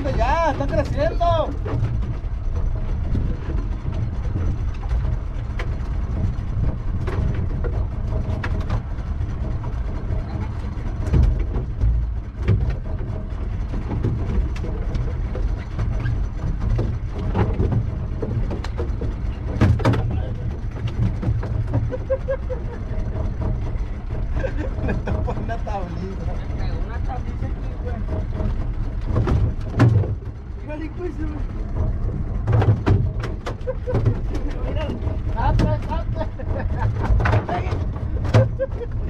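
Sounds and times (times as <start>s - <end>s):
knocks on boat: 0.0s - 22.1s, 27.5s - 30.6s, 31.2s - 39.0s
steady low rumble: 0.0s - 39.0s.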